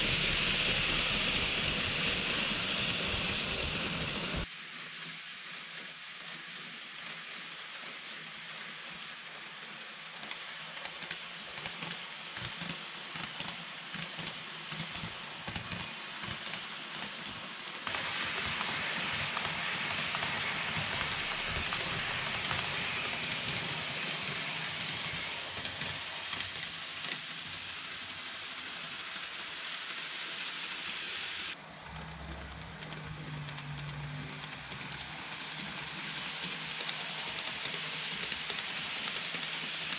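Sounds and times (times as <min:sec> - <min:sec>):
model train wheels rattling: 0:00.0 - 0:39.9.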